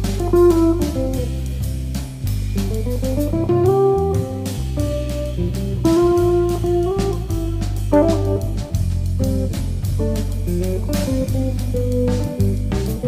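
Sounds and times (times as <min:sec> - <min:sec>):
guitar music with bass and beat: 0:00.0 - 0:13.0.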